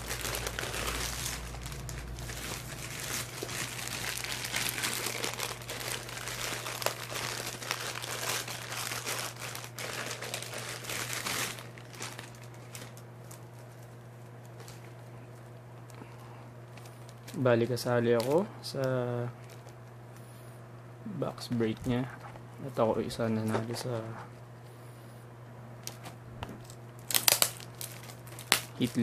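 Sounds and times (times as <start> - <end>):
packaging crinkling and rustling: 0.0 - 18.4, 19.4 - 20.0, 21.4 - 24.2, 25.8 - 29.0
steady low hum: 0.0 - 29.0.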